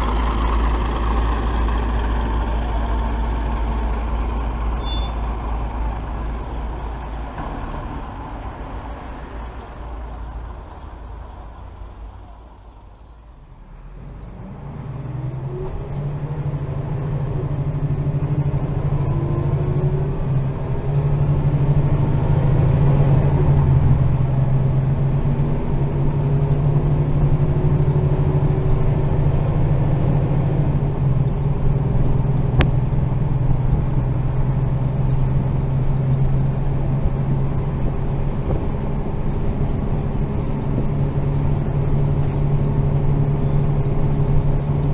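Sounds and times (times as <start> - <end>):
bus engine drone: 0.0 - 44.9.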